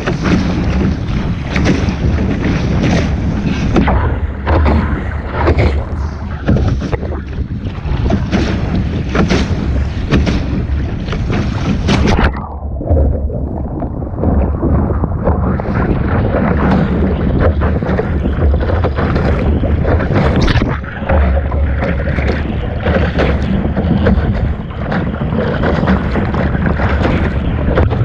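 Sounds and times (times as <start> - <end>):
rushing water: 0.0 - 28.0
wind buffeting microphone: 0.0 - 28.0.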